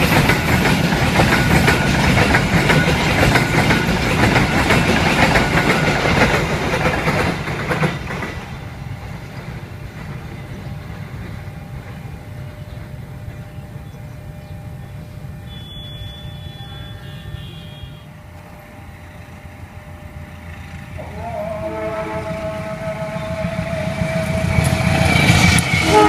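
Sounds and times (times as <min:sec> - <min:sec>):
train wagons clacking on rails: 0:00.0 - 0:17.8, 0:20.4 - 0:26.0
faint steady train rumble: 0:00.0 - 0:26.0.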